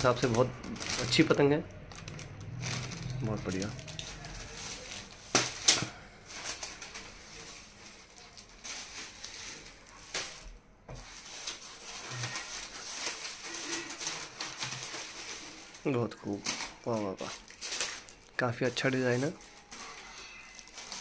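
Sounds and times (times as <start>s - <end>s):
paper rustling: 0.0s - 21.0s.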